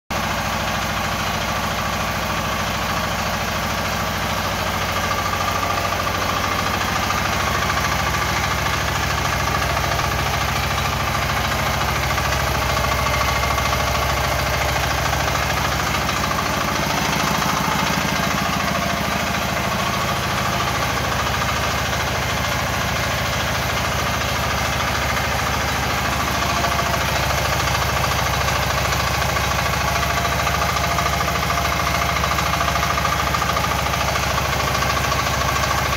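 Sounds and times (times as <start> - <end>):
small diesel engine idling: 0.1 - 35.9.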